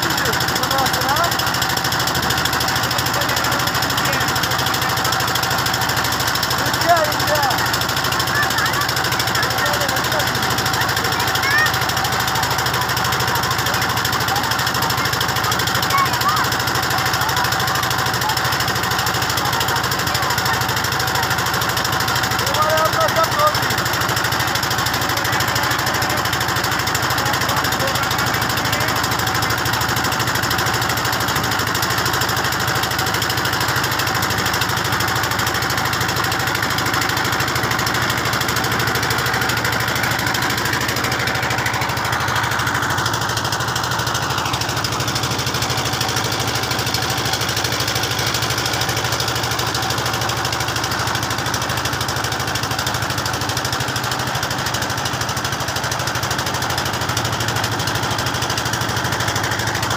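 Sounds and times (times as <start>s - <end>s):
boat engine running steadily: 0.0s - 59.9s.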